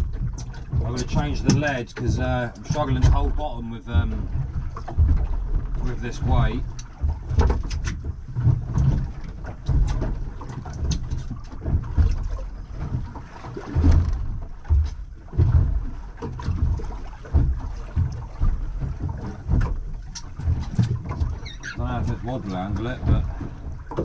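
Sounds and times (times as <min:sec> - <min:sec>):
low thumps: 0:00.0 - 0:24.0.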